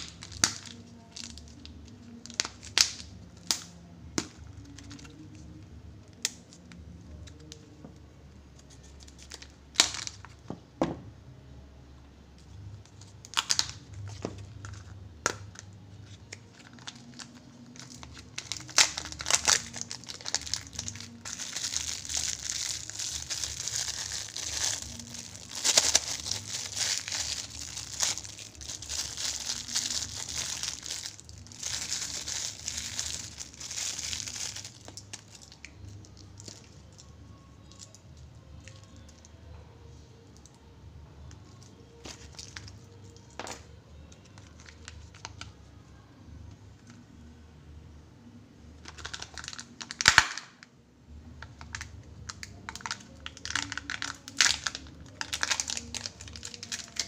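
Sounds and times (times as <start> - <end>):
plastic wrapper crinkling: 0.0 - 7.8, 8.6 - 10.5, 12.5 - 39.2, 41.4 - 45.6, 48.8 - 50.7, 51.4 - 57.0.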